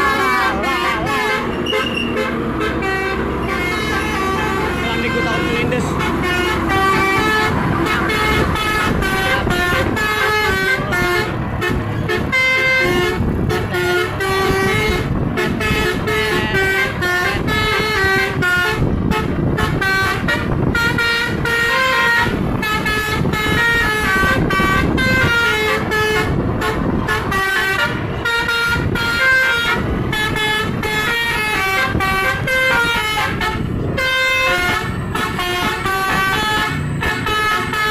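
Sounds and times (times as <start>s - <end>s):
musical air horn tune: 0.0s - 37.9s
truck engine rumble: 0.0s - 37.9s.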